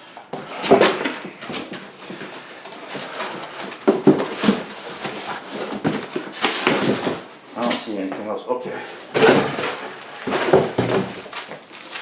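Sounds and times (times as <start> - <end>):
cardboard scraping and rustling: 0.4 - 7.8, 9.0 - 12.0.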